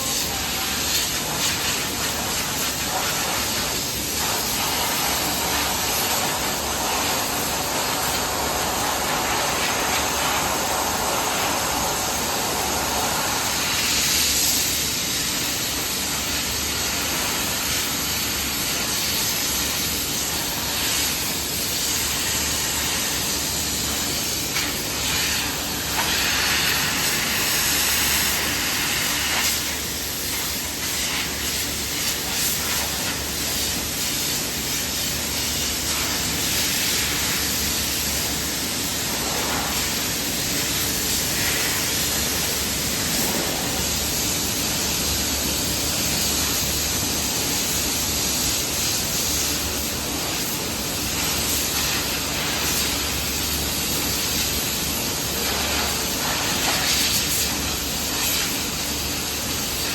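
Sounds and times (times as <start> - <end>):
machinery hissing air: 0.0 - 59.9.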